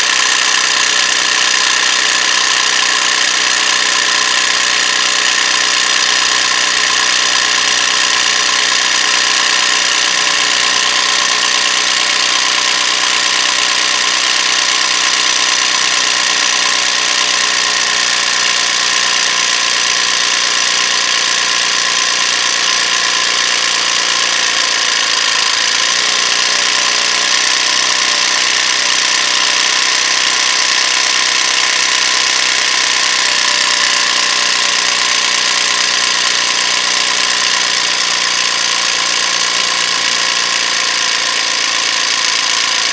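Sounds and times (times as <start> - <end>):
tyre inflator compressor running: 0.0 - 42.9.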